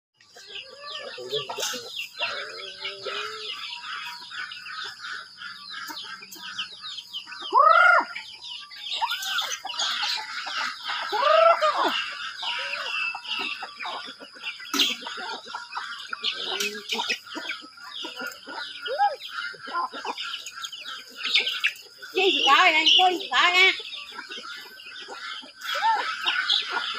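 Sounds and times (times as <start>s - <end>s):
chicken calls: 0.2s - 26.9s
chicks peeping: 0.2s - 26.9s.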